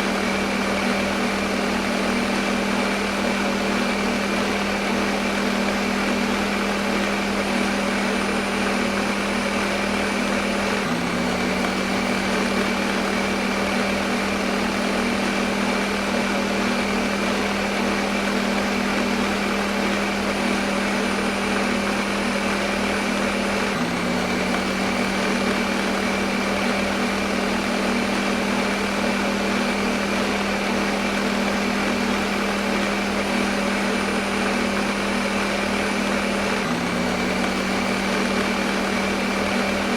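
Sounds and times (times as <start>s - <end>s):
blender motor whirring: 0.0s - 39.9s.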